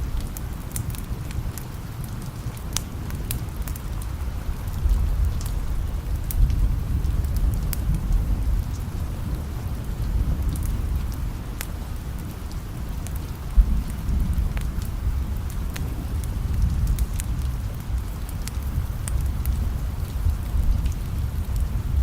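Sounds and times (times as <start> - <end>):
steady rain: 0.0 - 22.0
wood fire crackling: 0.0 - 22.0
distant thunder rumble: 3.0 - 22.0.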